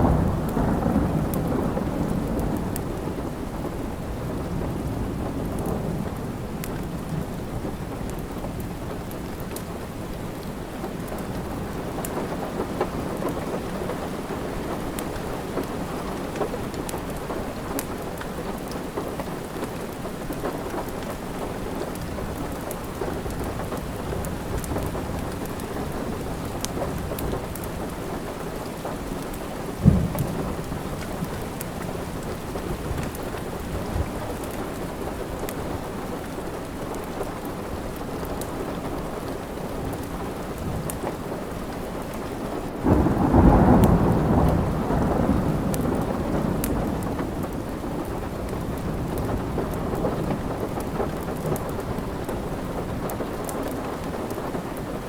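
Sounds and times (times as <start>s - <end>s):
low rumble of thunder: 0.0s - 17.8s, 18.5s - 36.2s, 42.7s - 55.0s
steady rain: 0.0s - 55.0s.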